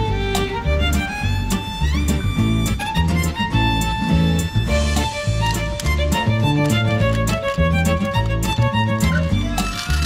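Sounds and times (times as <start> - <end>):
fiddle tune over a beat: 0.0 - 10.0.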